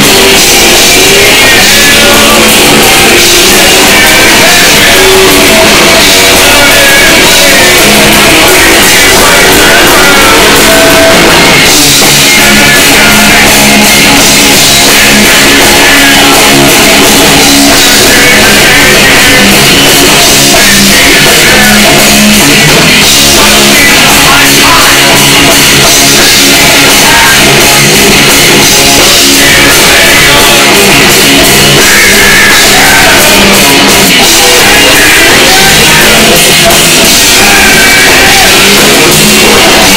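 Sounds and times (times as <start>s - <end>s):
man singing hard: 0.0s - 39.9s.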